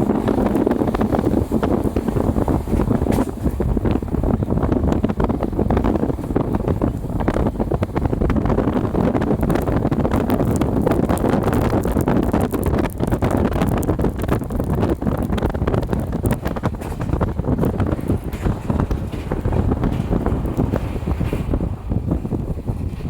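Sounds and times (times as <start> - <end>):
train wheels rumbling on rails: 0.0 - 23.0
wind buffeting microphone: 0.0 - 23.0.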